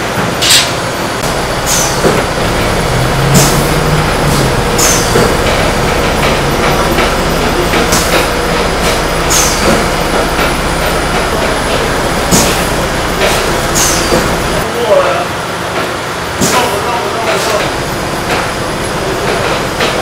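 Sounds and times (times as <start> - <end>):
machinery droning: 0.0 - 20.0.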